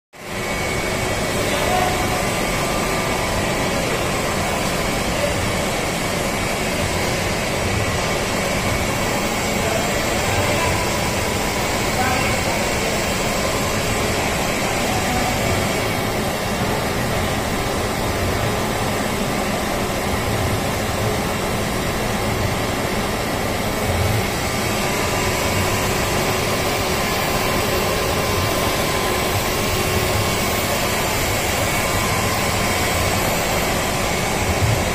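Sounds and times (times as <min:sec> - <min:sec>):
constant machine whine: 0:00.2 - 0:34.9
steady machine noise: 0:00.2 - 0:34.9.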